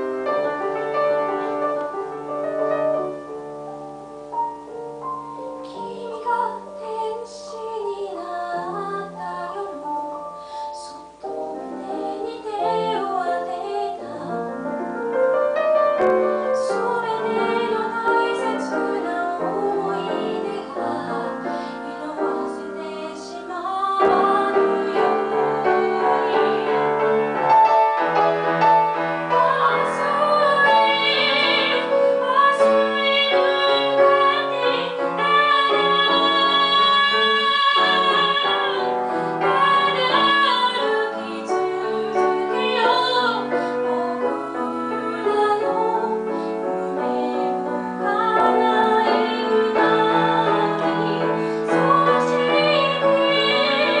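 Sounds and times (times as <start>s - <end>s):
grand piano playing: 0.0s - 54.0s
woman singing: 5.5s - 27.3s, 29.3s - 54.0s.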